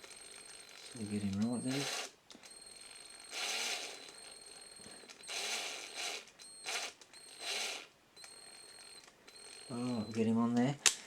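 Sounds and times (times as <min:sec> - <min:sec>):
small drill spinning: 0:00.0 - 0:10.3.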